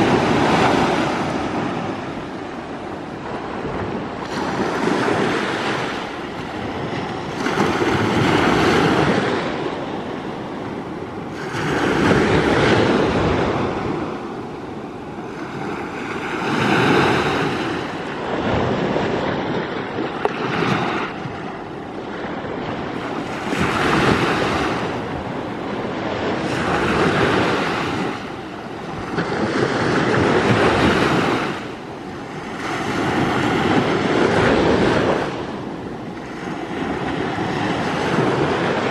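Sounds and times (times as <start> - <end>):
small waves breaking on shore: 0.0 - 38.9.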